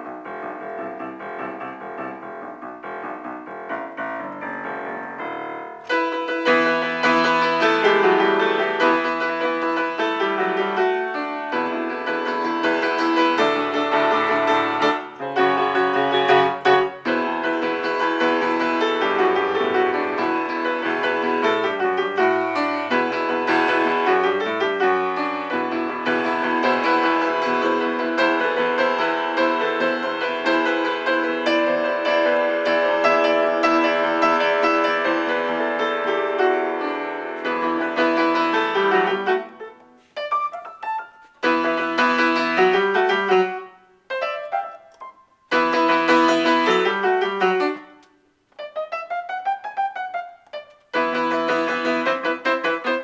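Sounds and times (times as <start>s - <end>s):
solo piano: 0.0s - 53.0s.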